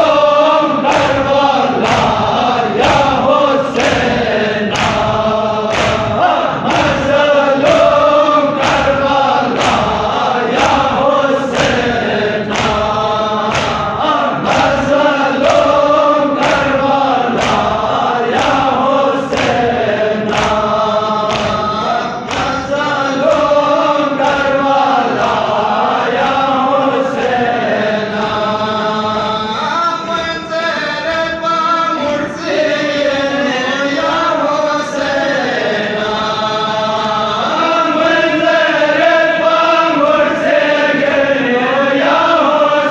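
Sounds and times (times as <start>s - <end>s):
men chanting together: 0.0s - 42.9s
rhythmic chest-beating slaps: 0.0s - 42.9s.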